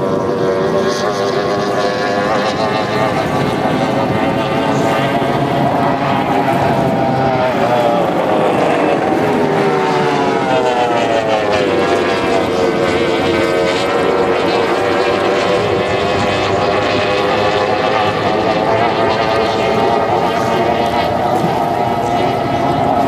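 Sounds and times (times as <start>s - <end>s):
race boat outboard engines: 0.0s - 23.0s.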